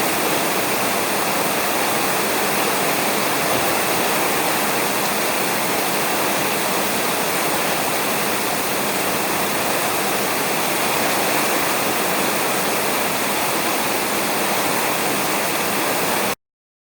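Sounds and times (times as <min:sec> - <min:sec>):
heavy rain on a roof: 0:00.0 - 0:16.4.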